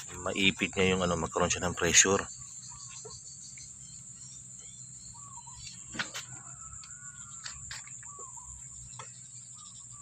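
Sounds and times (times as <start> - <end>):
bird chirps: 0.0 - 10.0
insects droning: 0.0 - 10.0.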